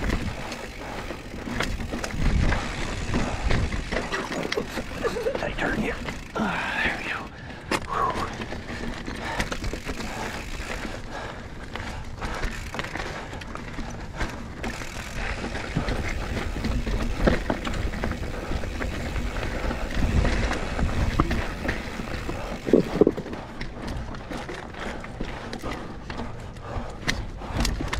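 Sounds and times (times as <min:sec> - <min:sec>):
bike tyres rumbling over rocks: 0:00.0 - 0:06.6, 0:07.5 - 0:27.9
bike clicks and rattles: 0:00.0 - 0:27.9.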